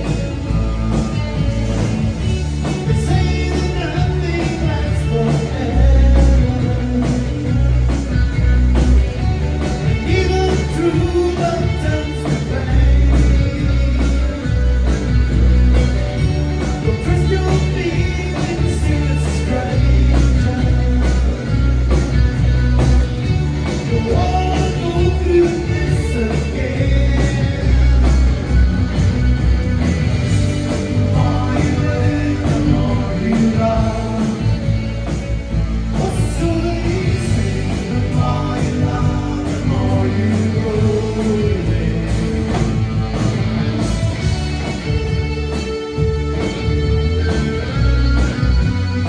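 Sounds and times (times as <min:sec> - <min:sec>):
lead vocal: 0:00.0 - 0:49.0
rock band playing: 0:00.0 - 0:49.0.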